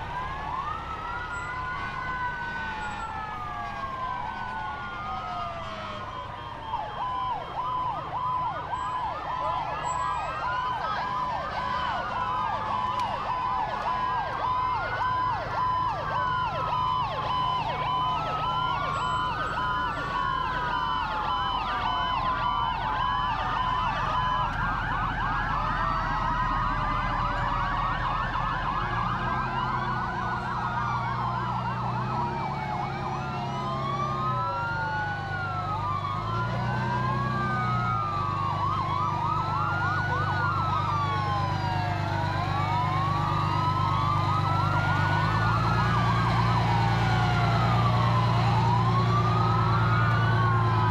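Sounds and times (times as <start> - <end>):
fire truck sirens wailing: 0.0 - 50.9
truck engines droning: 0.0 - 50.9.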